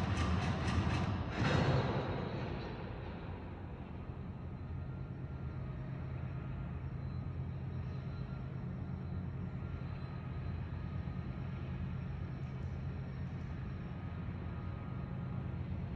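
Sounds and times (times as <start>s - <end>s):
low mechanical rumble: 0.0s - 15.9s.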